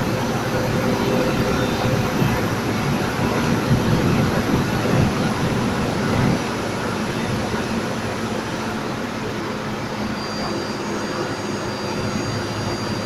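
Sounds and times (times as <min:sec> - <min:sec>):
bus engine and tyre rumble: 0:00.0 - 0:13.0.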